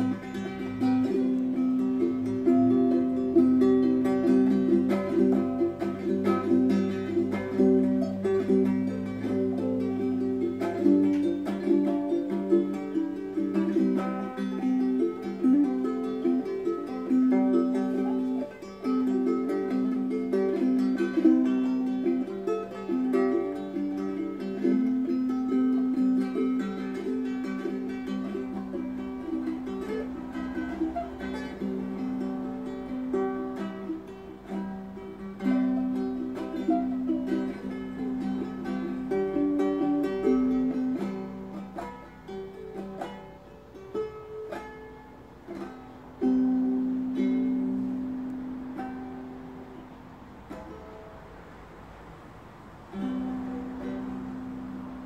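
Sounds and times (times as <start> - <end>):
ukulele playing: 0.0 - 55.0.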